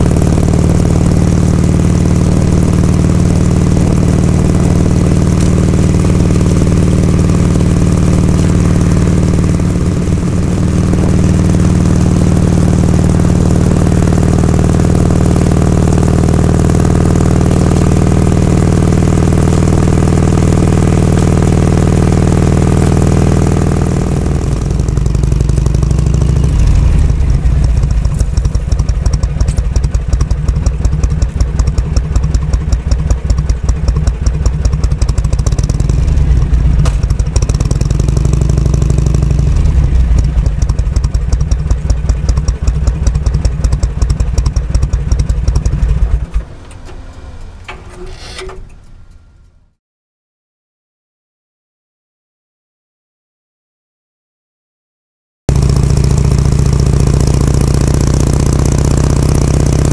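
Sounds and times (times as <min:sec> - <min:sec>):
motorcycle engine running: 0:00.0 - 0:49.8, 0:55.5 - 0:59.9.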